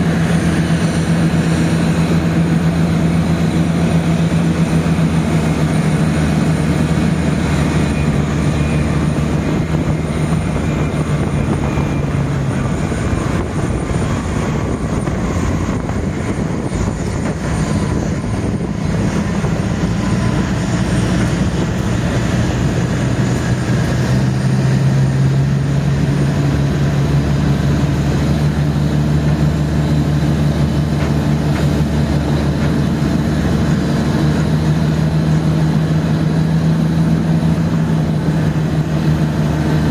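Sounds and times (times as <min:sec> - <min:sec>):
vehicle engine drone: 0:00.0 - 0:39.9
wind rush: 0:00.0 - 0:39.9.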